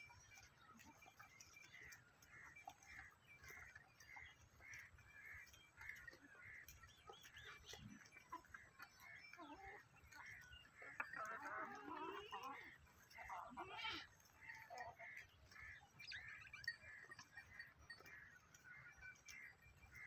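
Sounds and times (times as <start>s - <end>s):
bird chirps and clucks: 0.1s - 20.0s.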